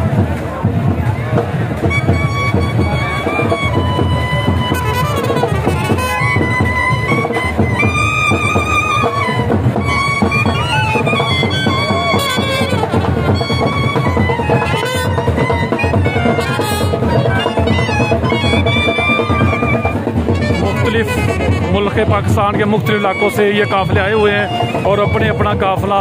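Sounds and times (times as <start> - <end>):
steady drumming: 0.0 - 26.0
trumpets playing melody: 1.8 - 26.0.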